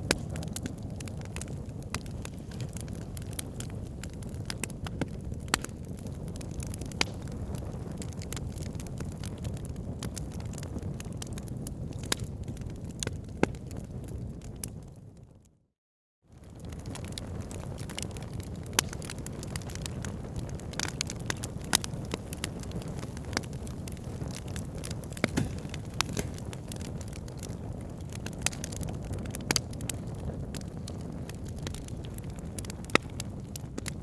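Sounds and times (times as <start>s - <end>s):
flames rushing: 0.0s - 13.1s, 16.5s - 34.0s
wood fire crackling: 0.0s - 14.8s, 16.4s - 34.0s.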